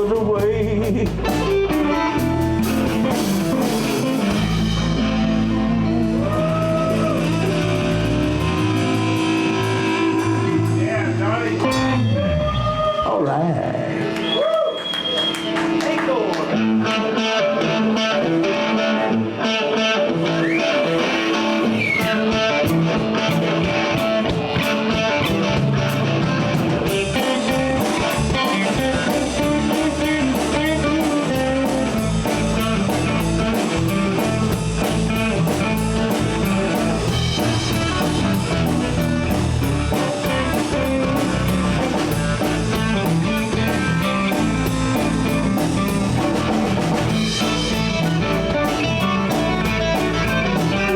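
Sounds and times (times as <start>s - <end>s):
drum kit with cymbals: 0.0s - 12.7s, 20.6s - 50.9s
bass guitar: 0.0s - 50.9s
electric guitar: 0.0s - 50.9s.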